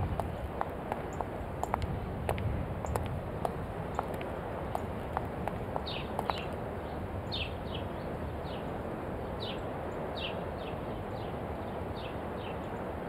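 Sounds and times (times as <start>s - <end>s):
birds chirping: 0.0s - 13.0s
outdoor background hush: 0.0s - 13.0s.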